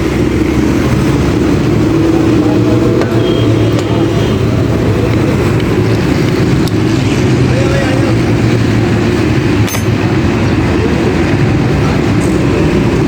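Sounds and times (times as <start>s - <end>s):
motor traffic rumble: 0.0s - 13.0s.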